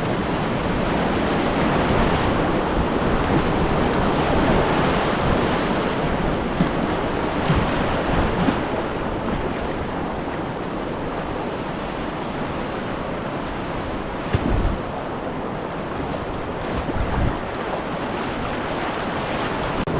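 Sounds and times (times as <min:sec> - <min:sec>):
rushing whitewater: 0:00.0 - 0:19.9
water splashes: 0:00.0 - 0:19.9
wind buffeting microphone: 0:00.0 - 0:19.9.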